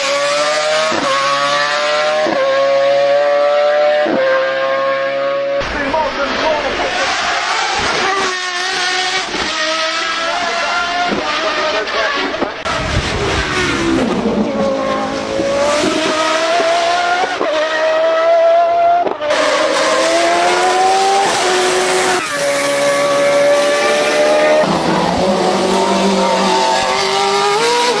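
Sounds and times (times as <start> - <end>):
racing engine at high revs: 0.0 - 28.0.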